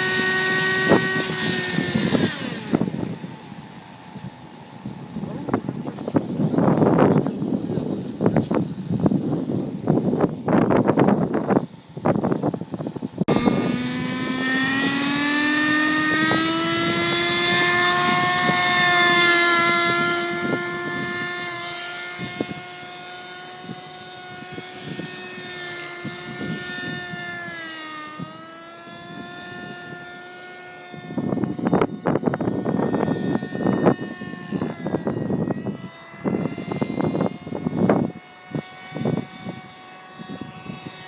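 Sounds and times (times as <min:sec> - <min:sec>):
model helicopter engine and rotor: 0:00.0 - 0:41.0.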